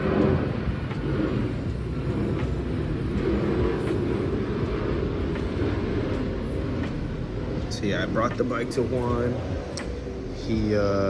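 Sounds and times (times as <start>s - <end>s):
engine running drone: 0.0s - 11.0s.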